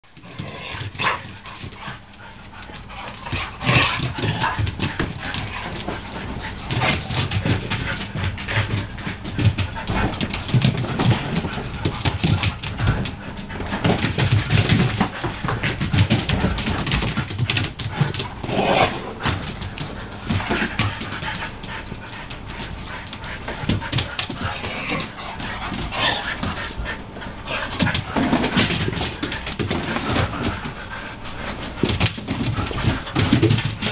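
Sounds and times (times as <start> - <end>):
dogs whining and grumbling: 0.2 - 33.9.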